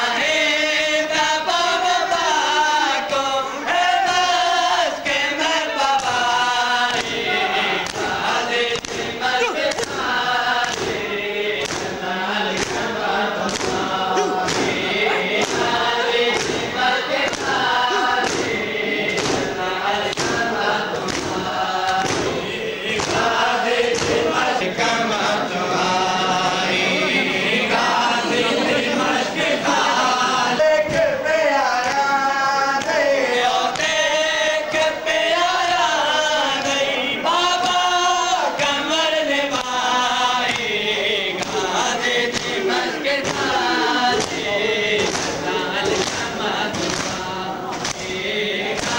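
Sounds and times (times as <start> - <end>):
men chanting in chorus: 0.0 - 48.9.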